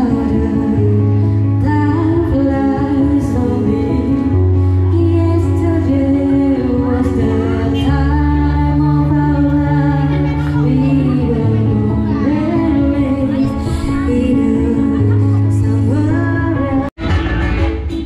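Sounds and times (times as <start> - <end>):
woman singing into microphone: 0.0 - 17.0
backing music with bass notes: 0.0 - 18.0.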